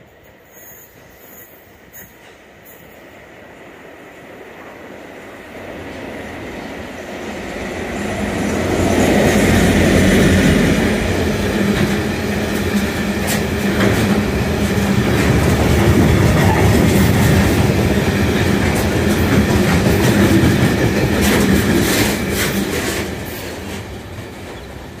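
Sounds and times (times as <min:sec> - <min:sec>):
diesel locomotive passing: 0:00.0 - 0:25.0.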